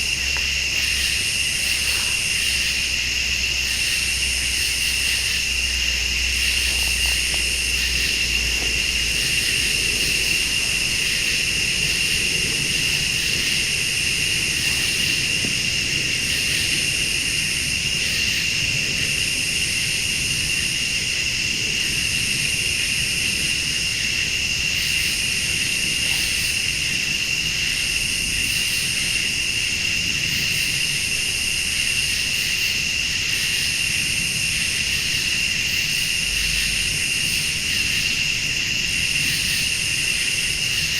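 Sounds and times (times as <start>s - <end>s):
crickets trilling: 0.0s - 40.9s
pulsing insect chorus: 0.0s - 40.9s.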